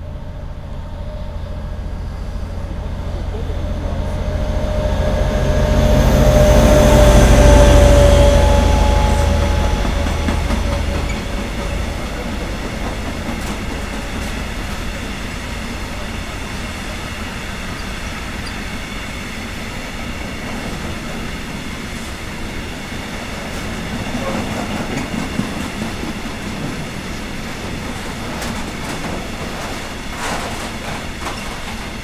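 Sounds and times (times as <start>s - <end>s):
steel wheels rumbling on track: 0.0s - 32.0s.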